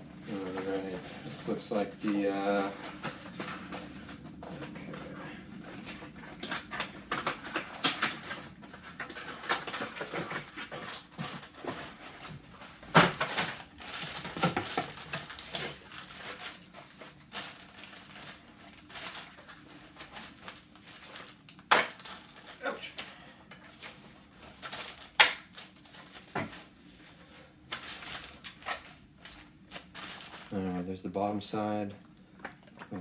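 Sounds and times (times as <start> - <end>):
packaging rustling: 0.0 - 31.9.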